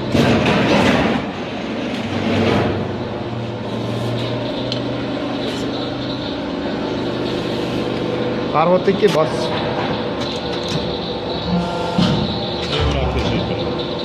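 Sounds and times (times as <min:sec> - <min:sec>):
machine noisy surges: 0:00.0 - 0:14.0
sheet-metal notching machine humming: 0:00.0 - 0:14.0.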